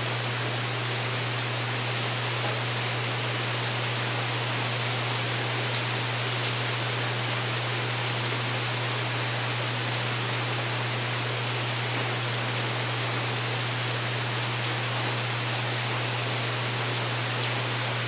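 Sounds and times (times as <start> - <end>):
rain on a porch roof: 0.0 - 18.0.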